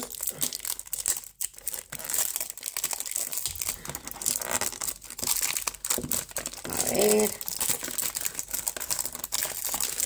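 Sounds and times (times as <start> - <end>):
plastic wrap crinkling: 0.0 - 10.0.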